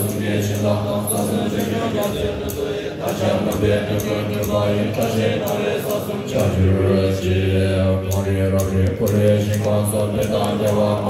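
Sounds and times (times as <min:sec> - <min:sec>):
monks chanting in deep voices: 0:00.0 - 0:11.0.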